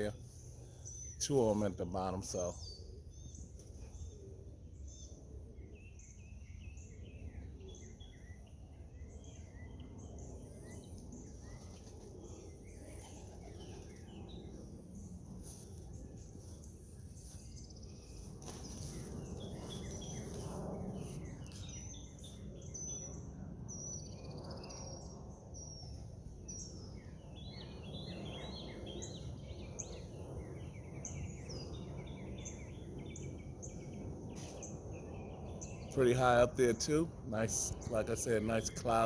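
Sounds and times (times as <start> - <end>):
small birds chirping and singing: 4.8 - 39.0.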